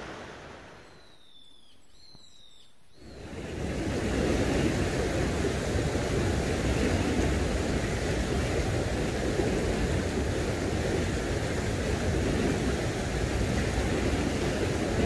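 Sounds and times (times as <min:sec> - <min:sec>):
stream rushing over boulders: 0:00.0 - 0:00.8, 0:03.2 - 0:15.0.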